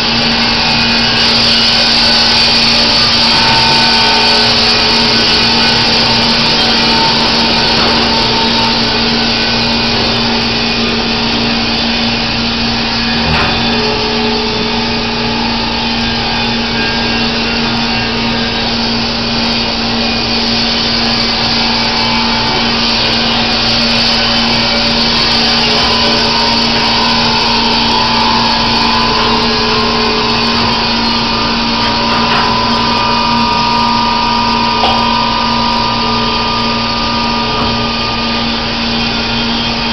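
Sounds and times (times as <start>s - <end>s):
band sawmill cutting log: 0.0s - 39.9s
high-pitched saw whine: 0.0s - 39.9s.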